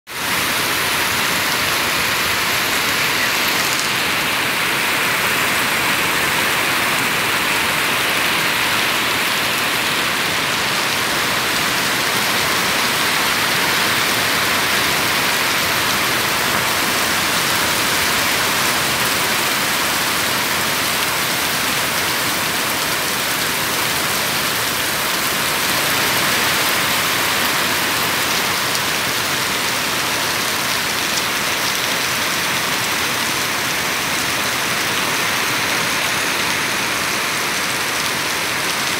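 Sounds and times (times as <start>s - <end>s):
heavy rain on trees: 0.1s - 38.9s.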